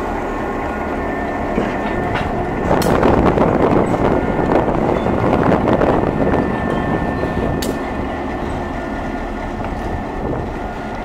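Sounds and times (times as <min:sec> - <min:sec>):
train rolling past: 0:00.0 - 0:11.0.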